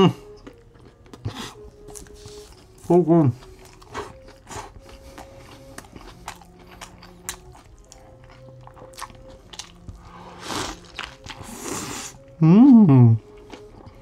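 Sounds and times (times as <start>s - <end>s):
chewing with wet mouth smacks: 0.2s - 12.2s.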